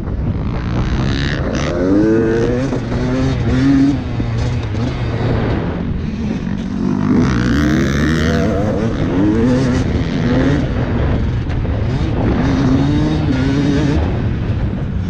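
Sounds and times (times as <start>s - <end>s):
dirt bike engine revving: 0.4s - 14.6s.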